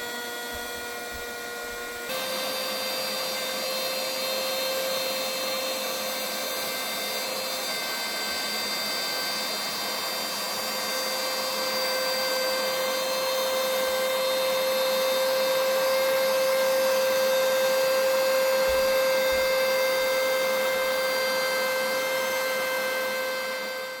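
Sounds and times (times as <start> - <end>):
car vacuum cleaner running: 0.0 - 24.0.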